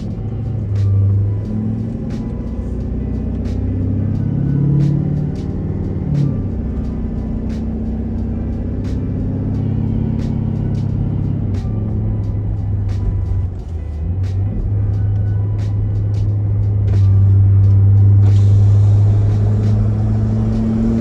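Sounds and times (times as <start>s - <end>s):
diesel engine deep drone: 0.0s - 21.0s.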